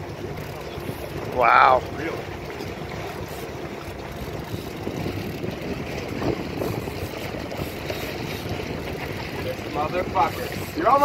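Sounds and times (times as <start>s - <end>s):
boat motor rumbling: 0.0s - 11.0s
wind on microphone: 0.7s - 11.0s.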